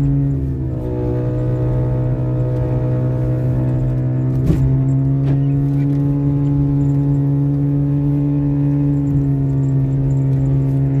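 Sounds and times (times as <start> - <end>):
car engine running steadily: 0.0 - 11.0.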